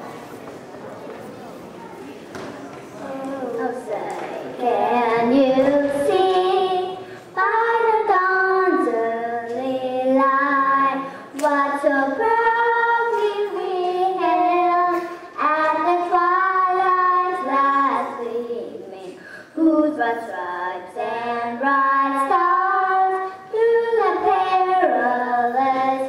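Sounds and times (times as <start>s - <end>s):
girl singing into a microphone: 3.0s - 26.0s.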